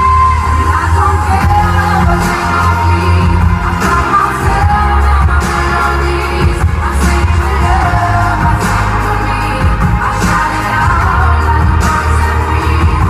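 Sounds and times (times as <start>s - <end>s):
live pop band with singing: 0.0s - 13.0s.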